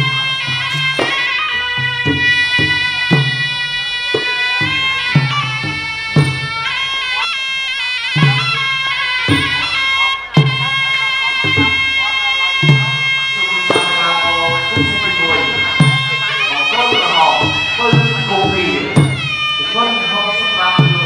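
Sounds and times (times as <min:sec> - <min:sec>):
drum strokes: 0:00.0 - 0:21.0
reedy oboe melody: 0:00.0 - 0:21.0.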